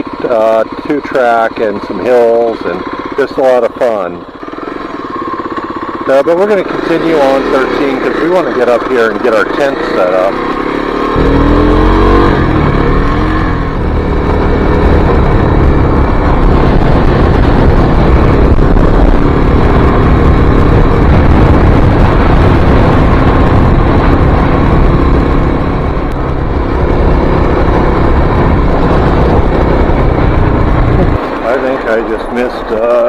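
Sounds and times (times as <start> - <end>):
dirt bike engine accelerating: 0.0 - 33.0.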